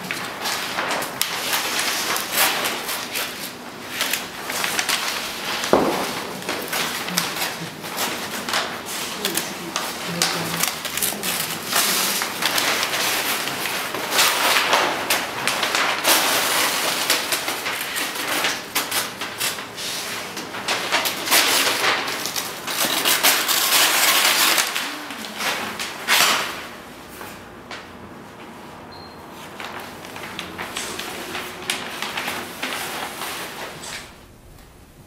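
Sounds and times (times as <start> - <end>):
paper crumpling and crinkling: 0.0 - 27.4, 29.4 - 34.2.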